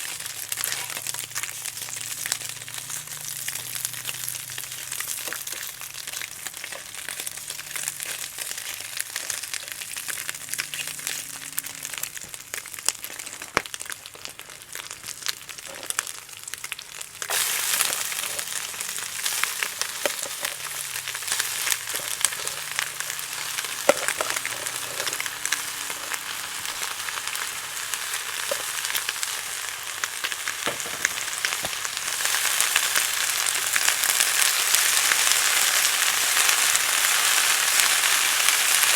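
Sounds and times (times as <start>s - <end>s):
food sizzling in a pan: 0.0s - 38.9s
wood fire crackles: 0.0s - 38.9s.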